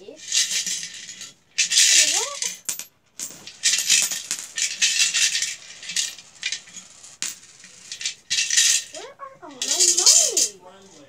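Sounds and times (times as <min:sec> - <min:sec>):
coins rattling in piggy bank: 0:00.1 - 0:10.6.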